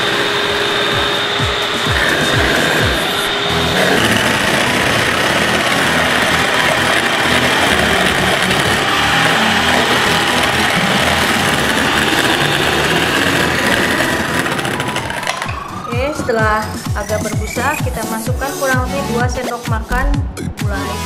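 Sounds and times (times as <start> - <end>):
electric hand mixer whisking: 0.0 - 19.4.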